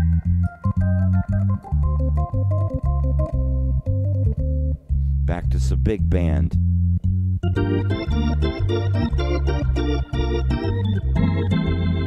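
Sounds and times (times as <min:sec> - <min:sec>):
organ playing chords: 0:00.0 - 0:05.5, 0:07.4 - 0:12.0
steady bass line: 0:00.0 - 0:12.0.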